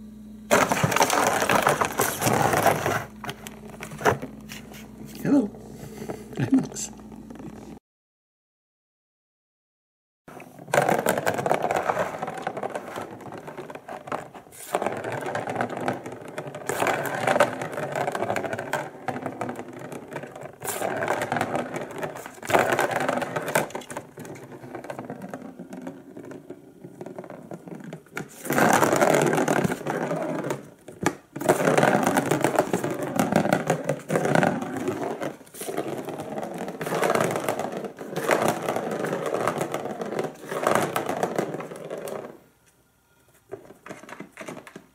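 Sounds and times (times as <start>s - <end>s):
ball rolling in plastic track: 0.5s - 5.5s, 10.3s - 42.6s, 43.5s - 44.9s.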